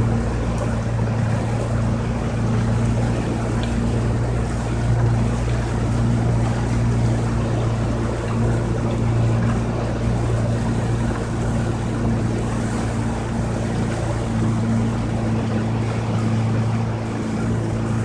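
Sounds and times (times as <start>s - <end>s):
outboard motor running: 0.0s - 18.0s
water rushing: 0.0s - 18.0s
wind: 0.0s - 18.0s.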